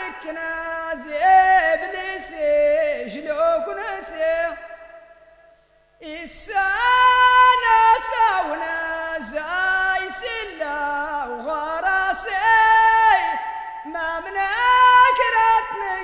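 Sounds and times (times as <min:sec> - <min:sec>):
person singing: 0:00.0 - 0:04.8, 0:06.0 - 0:16.0.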